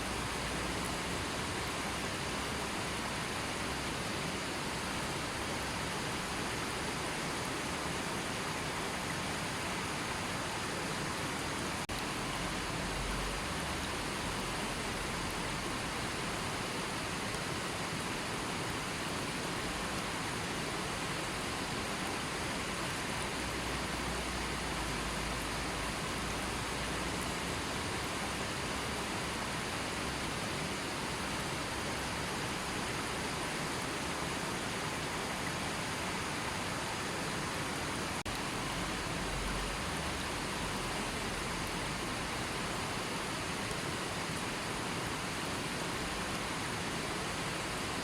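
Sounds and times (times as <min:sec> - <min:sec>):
river flowing: 0:00.0 - 0:48.0.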